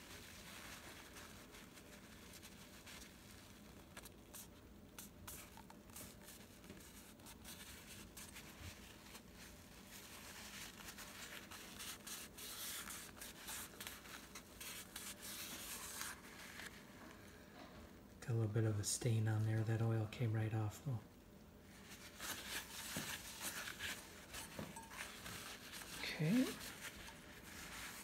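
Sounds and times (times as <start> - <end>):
paper towel wiping metal: 0.0 - 17.0, 21.7 - 28.0.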